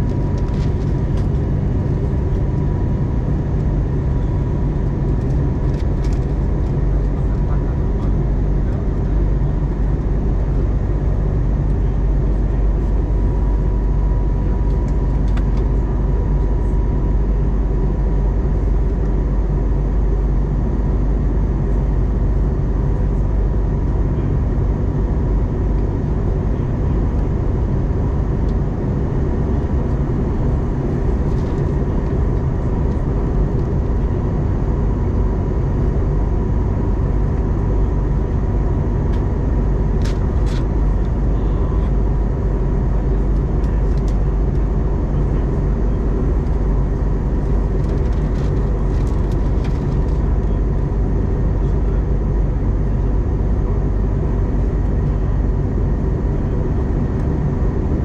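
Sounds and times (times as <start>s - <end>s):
airplane cabin engine roar: 0.0s - 58.0s.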